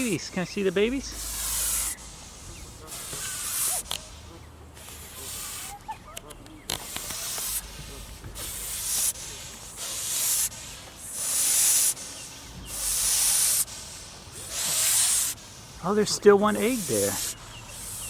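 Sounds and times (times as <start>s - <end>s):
goose hissing: 0.0s - 18.0s.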